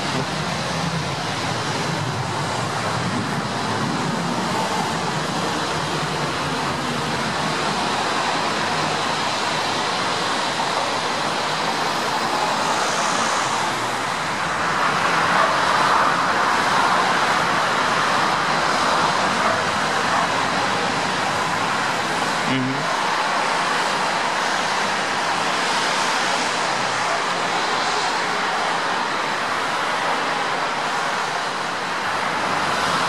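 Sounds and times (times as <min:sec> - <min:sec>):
cars passing on busy road: 0:00.0 - 0:33.0.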